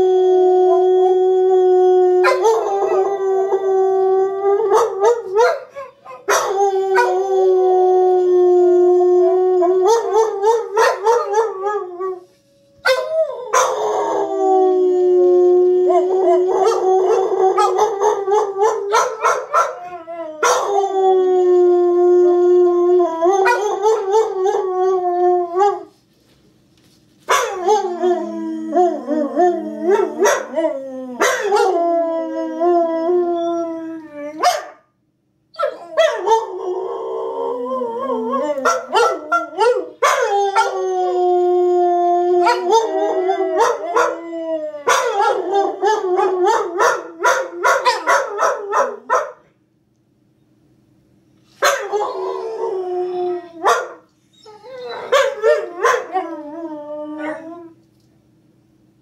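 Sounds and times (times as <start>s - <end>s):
dogs howling and yipping: 0.0s - 12.2s, 12.8s - 25.9s, 27.3s - 34.7s, 35.6s - 49.3s, 51.6s - 57.8s.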